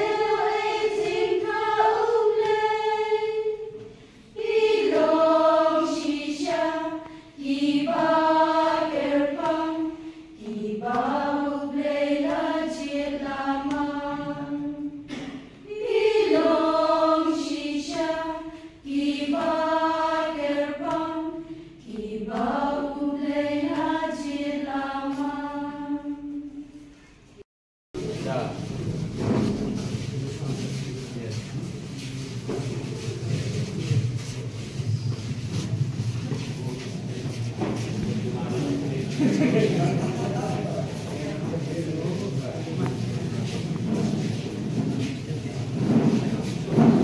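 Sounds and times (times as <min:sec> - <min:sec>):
choir singing: 0:00.0 - 0:26.8, 0:32.5 - 0:45.2, 0:45.8 - 0:47.0.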